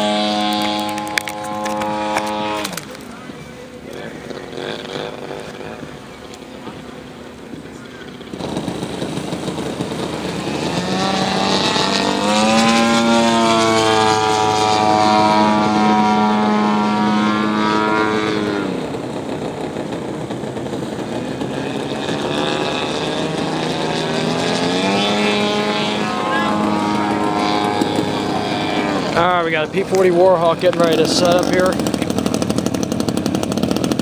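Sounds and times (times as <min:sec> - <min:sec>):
model airplane engine buzzing: 0:00.0 - 0:34.0.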